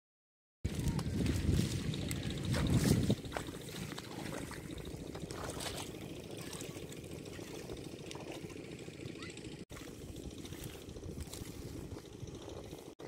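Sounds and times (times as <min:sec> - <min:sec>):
small water splashes: 0:00.7 - 0:12.0
steady low rumble: 0:00.7 - 0:13.0
water sloshing from wading: 0:00.7 - 0:13.0.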